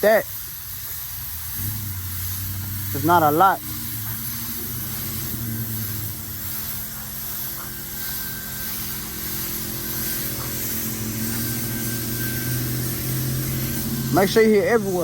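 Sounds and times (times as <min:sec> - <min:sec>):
paint spray gun hissing: 0:00.0 - 0:15.0
machine humming: 0:01.4 - 0:15.0.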